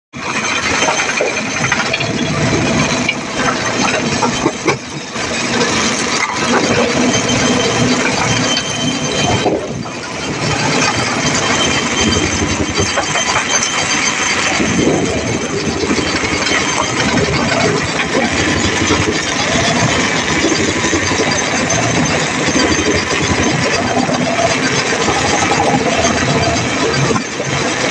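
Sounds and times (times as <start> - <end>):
clatter and grinding: 0.1 - 27.9
heavy machinery engine running: 0.2 - 27.9.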